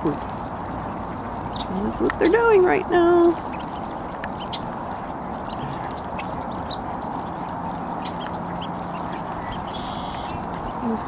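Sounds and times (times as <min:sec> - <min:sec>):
small birds chirping: 0:00.0 - 0:11.0
ducks quacking: 0:01.0 - 0:11.0.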